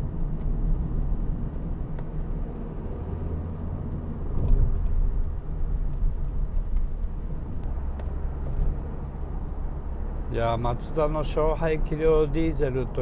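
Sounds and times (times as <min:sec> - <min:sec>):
tyre road noise: 0:00.0 - 0:13.0.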